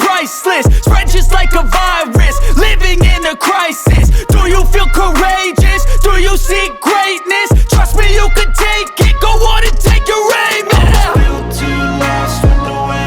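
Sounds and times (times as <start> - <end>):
hip hop music with deep bass: 0.0 - 13.0.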